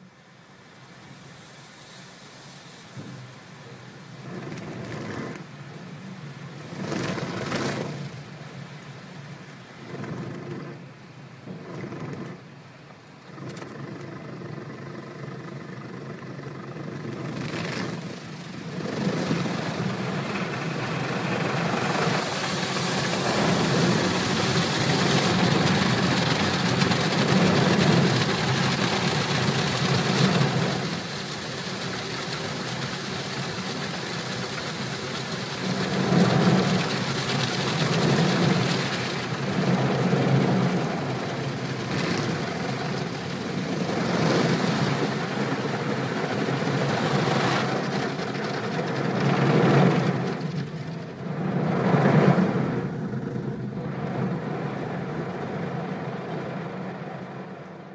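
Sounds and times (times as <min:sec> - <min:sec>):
water jets spraying on car: 0:00.0 - 0:57.9.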